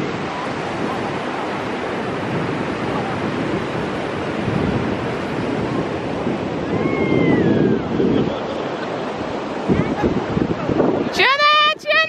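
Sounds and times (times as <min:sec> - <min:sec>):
surf washing on shore: 0:00.0 - 0:12.0
wind on microphone: 0:00.0 - 0:12.0.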